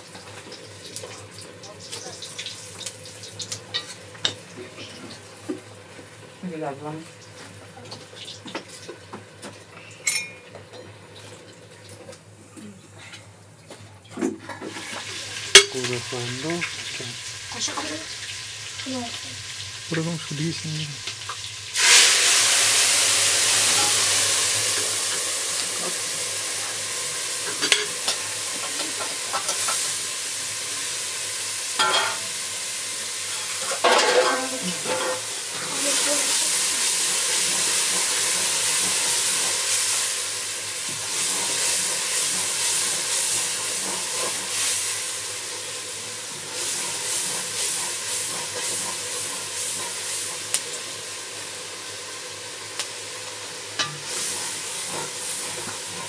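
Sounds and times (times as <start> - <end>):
liquid sizzling in hot pot: 0.0 - 56.0.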